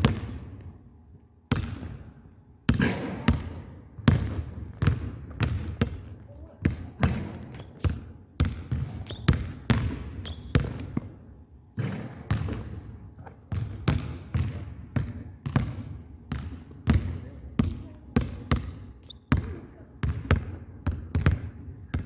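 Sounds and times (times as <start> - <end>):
basketballs bouncing on gym floor: 0.0 - 0.8, 1.5 - 22.0.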